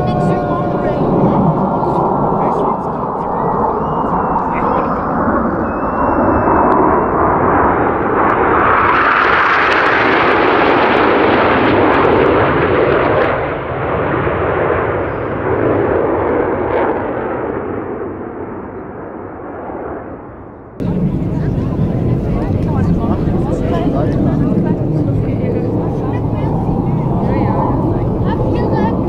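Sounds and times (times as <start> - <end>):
jet roar passing: 0.0 - 29.0.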